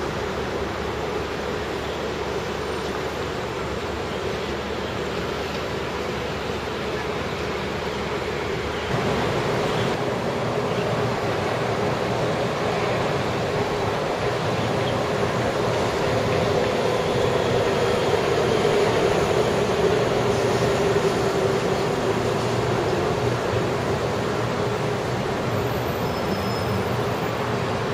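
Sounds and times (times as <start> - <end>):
city background noise: 0.0 - 27.9
train rumbling on viaduct: 0.0 - 27.9.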